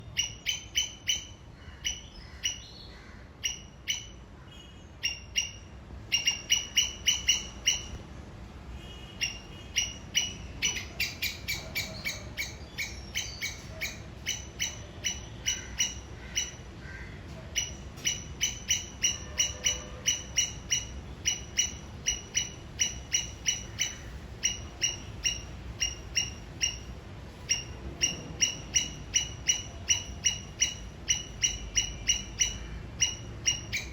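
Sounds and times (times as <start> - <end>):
squirrel chirping alarm call: 0.0 - 8.0, 9.2 - 33.9.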